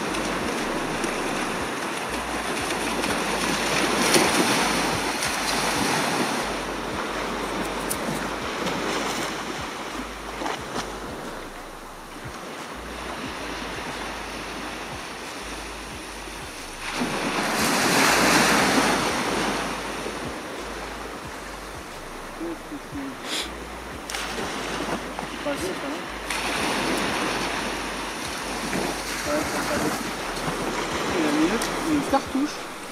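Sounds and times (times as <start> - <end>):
surf washing onto beach: 0.0 - 32.9
wave breaking: 0.0 - 32.9
wind rumble on microphone: 0.0 - 32.9.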